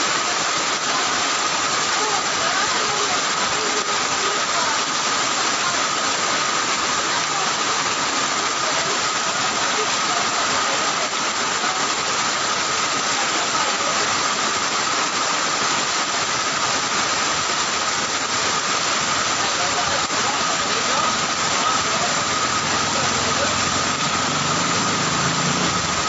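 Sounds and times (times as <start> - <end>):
floodwater flowing: 0.0 - 26.0
heavy rain: 0.0 - 26.0.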